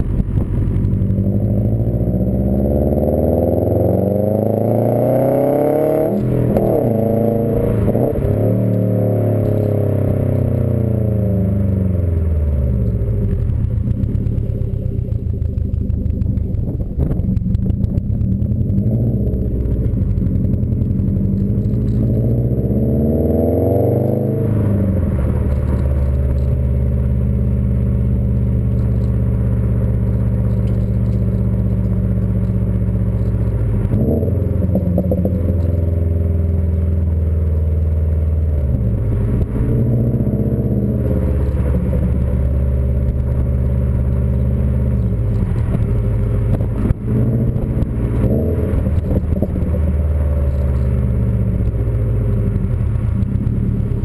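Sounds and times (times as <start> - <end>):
car engine revving while driving: 0.0 - 54.0.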